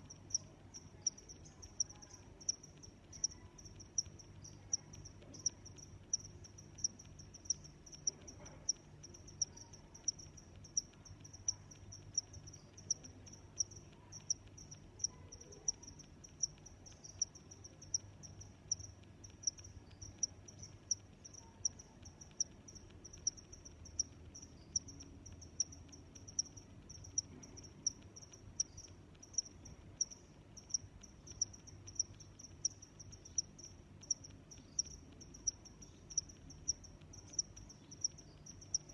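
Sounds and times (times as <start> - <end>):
cricket chirping: 0.0 - 38.9
faint low hum: 0.0 - 38.9.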